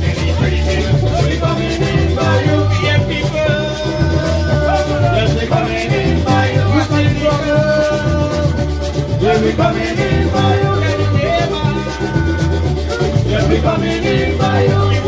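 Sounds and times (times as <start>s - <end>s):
bass guitar and banjo: 0.0s - 15.0s
voices singing together: 0.0s - 15.0s.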